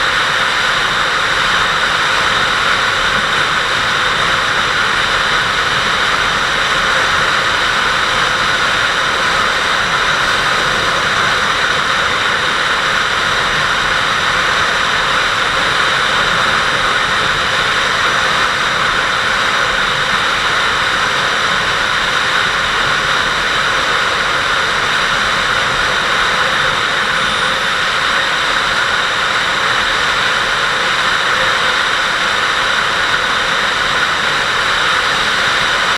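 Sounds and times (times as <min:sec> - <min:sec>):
road noise: 0:00.0 - 0:35.9
wind rushing over microphone: 0:00.0 - 0:35.9.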